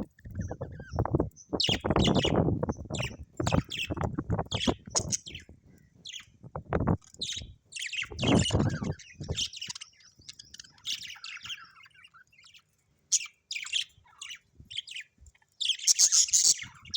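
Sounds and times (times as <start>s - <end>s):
budgerigars chirping: 0.2s - 5.5s, 7.1s - 16.9s.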